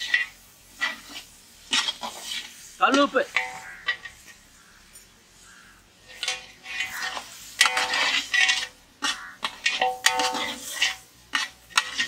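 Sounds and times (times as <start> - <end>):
ladle scraping a metal pot: 0.0 - 4.4, 6.0 - 12.0.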